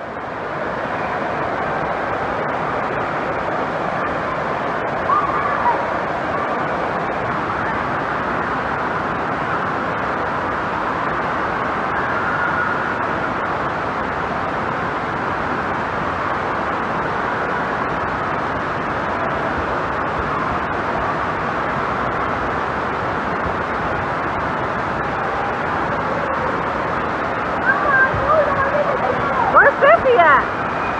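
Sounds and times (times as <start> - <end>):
water rushing down slides: 0.1 - 30.9.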